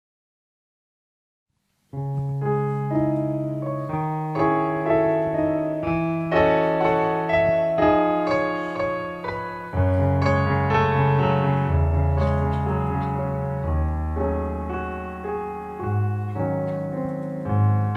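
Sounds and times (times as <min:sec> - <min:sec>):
slow piano chords: 0:01.9 - 0:17.9.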